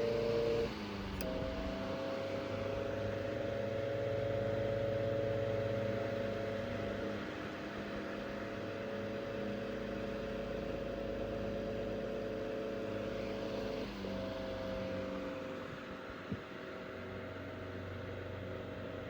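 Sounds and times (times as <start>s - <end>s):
desk fan running: 0.0s - 19.0s.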